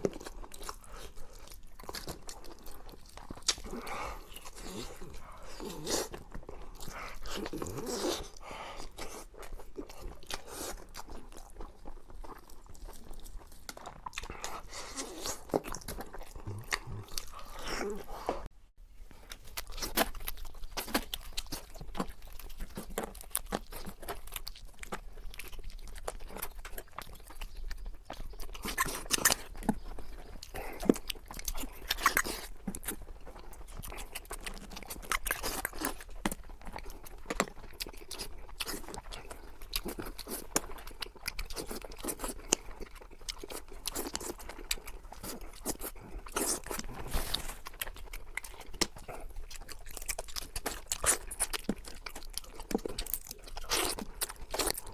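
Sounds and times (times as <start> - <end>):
person chewing crunchy food: 0.0 - 54.9.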